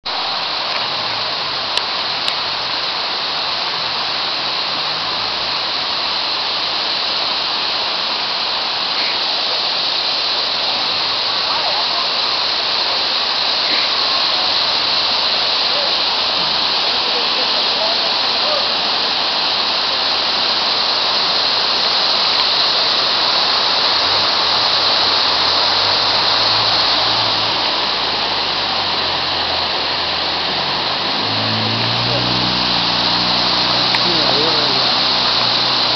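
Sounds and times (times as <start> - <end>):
rush of falling water: 0.0 - 35.9.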